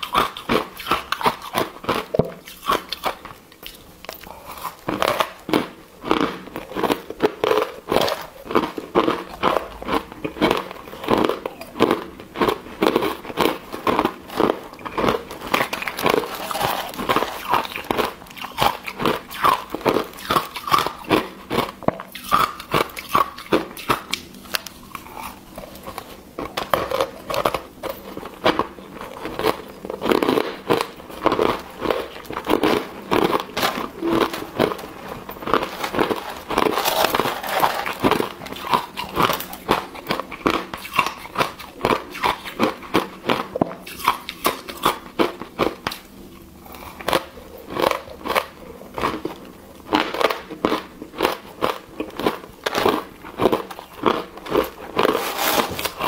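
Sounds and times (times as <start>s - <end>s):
ice crunched between teeth: 0.0s - 56.0s.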